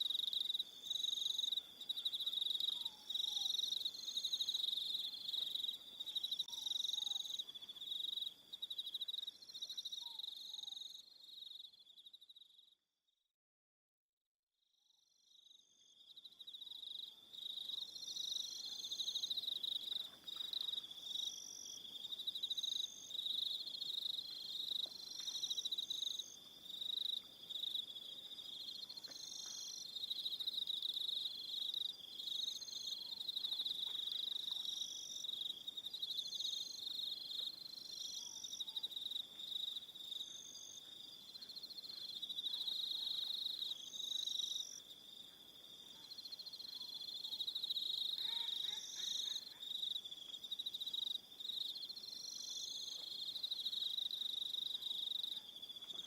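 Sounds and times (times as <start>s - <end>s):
crickets trilling: 0.0s - 12.1s, 15.9s - 56.0s
higher chirping insect song: 0.0s - 12.8s, 15.1s - 56.0s.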